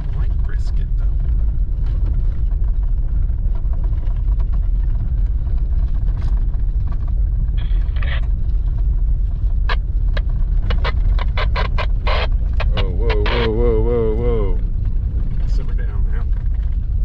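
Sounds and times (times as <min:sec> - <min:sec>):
car knocks and rattles over bumps: 0:00.0 - 0:17.0
engine and tyre rumble: 0:00.0 - 0:17.0.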